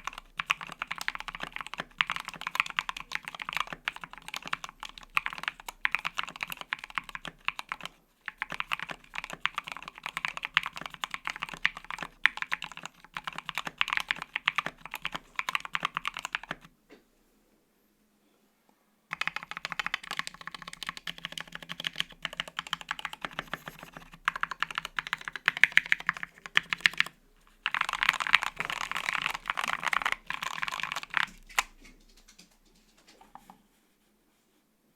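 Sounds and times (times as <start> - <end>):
mechanical keyboard typing: 0.0 - 16.7, 19.1 - 32.4.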